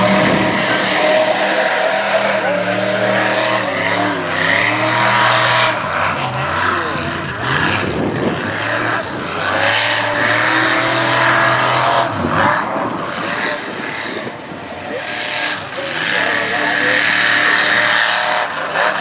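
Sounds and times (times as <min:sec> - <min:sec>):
tires churning mud: 0:00.0 - 0:19.0
truck engine revving: 0:00.0 - 0:19.0.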